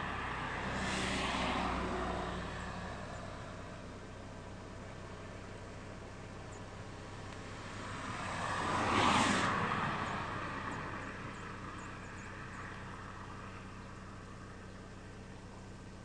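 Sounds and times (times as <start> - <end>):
vehicle passing by: 0.0 - 15.1.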